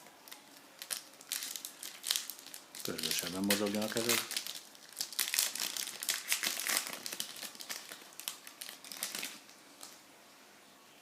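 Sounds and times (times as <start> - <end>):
plastic wrapper crinkling: 0.0 - 10.0.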